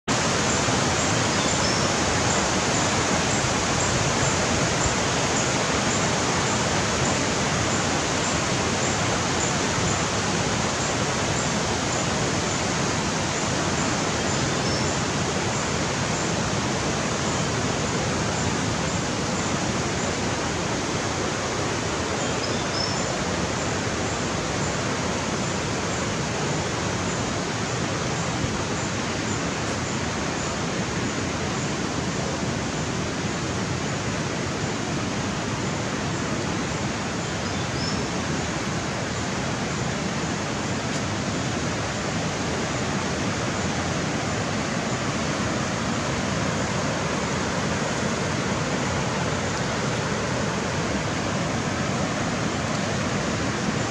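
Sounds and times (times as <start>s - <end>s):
river rushing over rocks: 0.1s - 53.9s.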